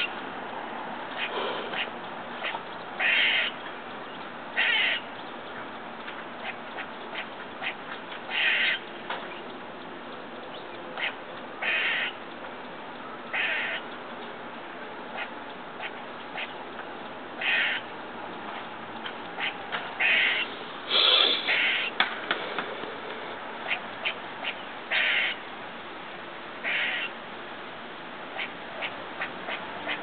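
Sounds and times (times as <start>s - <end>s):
squirrel raspy calls: 0.0s - 0.2s, 1.1s - 25.8s, 26.5s - 27.3s, 28.2s - 30.0s.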